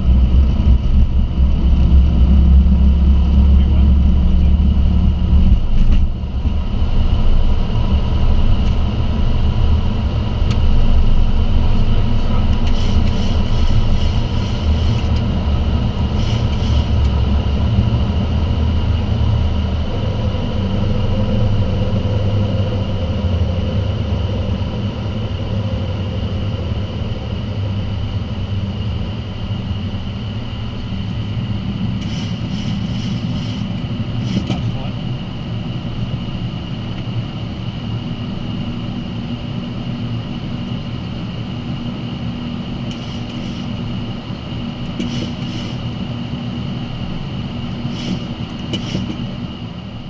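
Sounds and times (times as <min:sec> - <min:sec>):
jet engines deep rumble: 0:00.0 - 0:50.0
rushing air: 0:00.0 - 0:50.0
steady high whine: 0:00.0 - 0:50.0.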